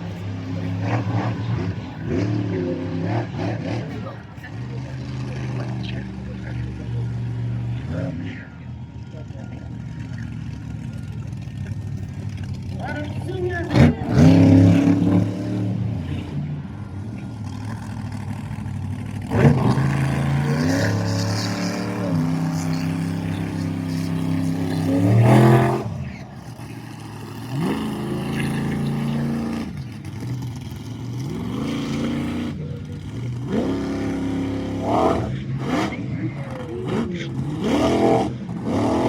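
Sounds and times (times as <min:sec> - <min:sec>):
monster truck engine revving: 0:00.0 - 0:39.0.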